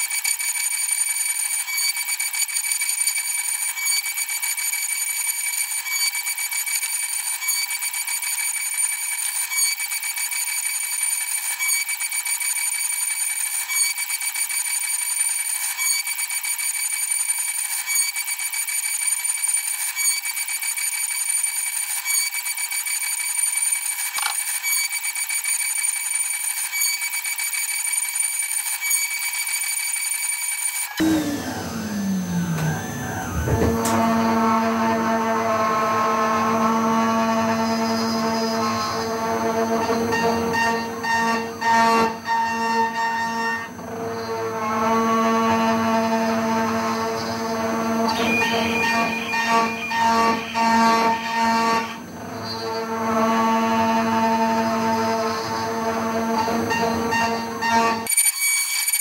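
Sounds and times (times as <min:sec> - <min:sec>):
router spindle high-pitched whine: 0:00.0 - 0:59.0.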